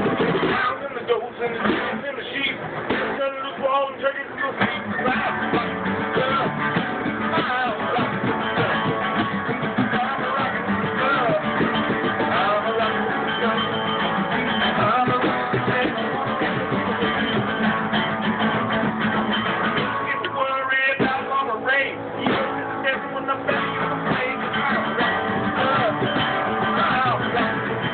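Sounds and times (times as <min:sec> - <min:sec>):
strummed acoustic guitar: 0:00.0 - 0:27.9.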